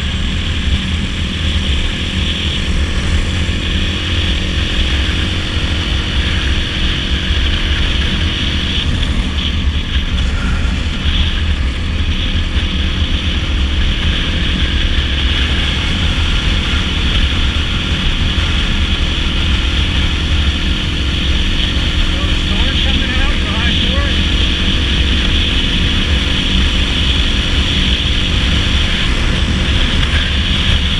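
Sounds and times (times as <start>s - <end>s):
dirt bike engine running: 0.0s - 30.9s
wind rush: 0.0s - 30.9s.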